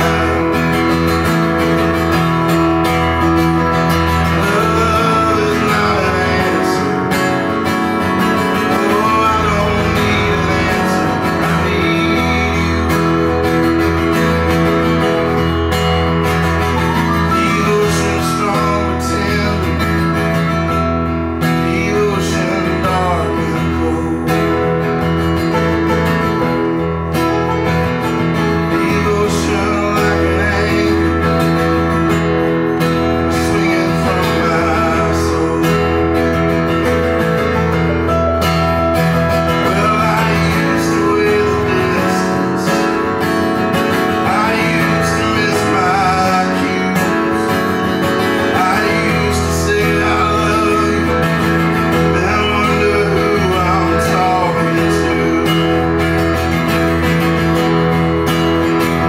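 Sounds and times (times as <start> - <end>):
keyboard accompaniment: 0.0 - 59.0
man singing: 0.0 - 59.0
strummed acoustic guitar: 0.0 - 59.0.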